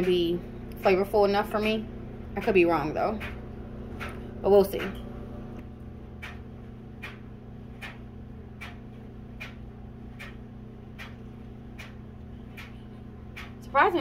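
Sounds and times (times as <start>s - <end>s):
low hum: 0.0s - 14.0s
soft ticking: 1.6s - 5.1s, 6.2s - 14.0s.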